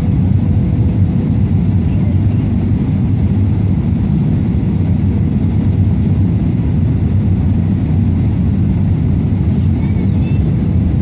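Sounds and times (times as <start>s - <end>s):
propeller airplane engine drone: 0.0s - 11.0s.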